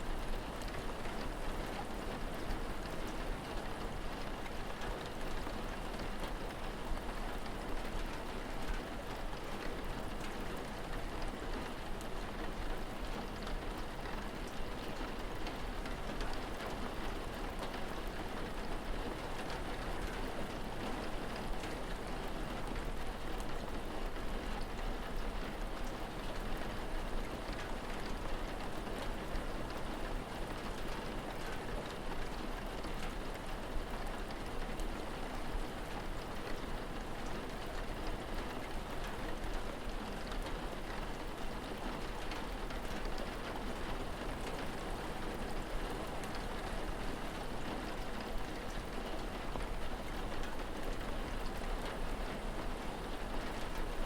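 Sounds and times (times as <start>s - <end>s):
rain patter: 0.0s - 54.0s.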